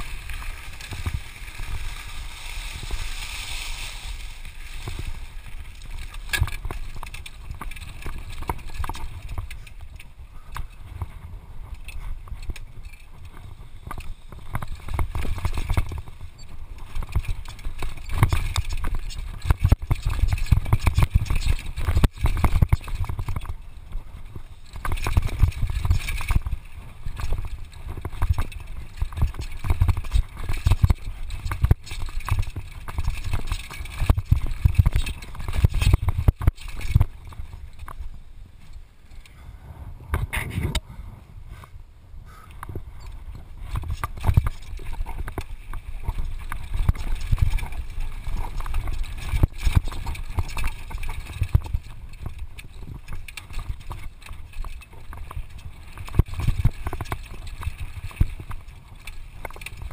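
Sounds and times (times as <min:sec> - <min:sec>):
bike rattling over bumps: 0:00.0 - 0:40.8, 0:42.3 - 0:59.9
bike rumble on rough trail: 0:00.0 - 0:59.9.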